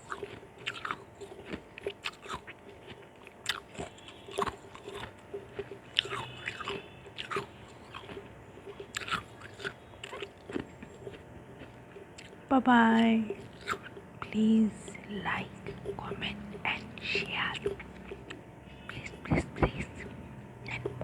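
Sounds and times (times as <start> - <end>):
ice crunching between teeth: 0.0 - 12.4, 13.2 - 19.2.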